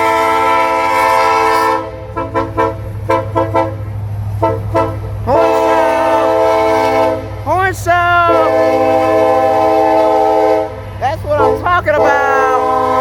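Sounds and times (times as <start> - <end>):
locomotive air horn: 0.0 - 13.0.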